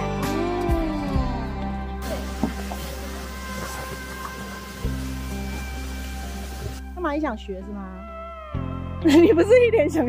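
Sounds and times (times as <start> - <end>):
background music with gliding melody: 0.0 - 10.0.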